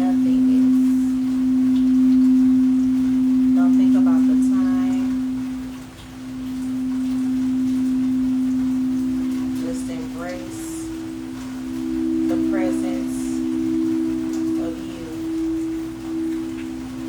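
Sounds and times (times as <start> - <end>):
singing bowl low tone: 0.0 - 17.0.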